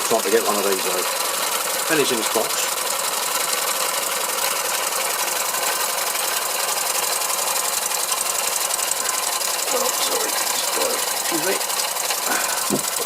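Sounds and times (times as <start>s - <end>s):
small engine mechanical clatter: 0.0s - 13.0s.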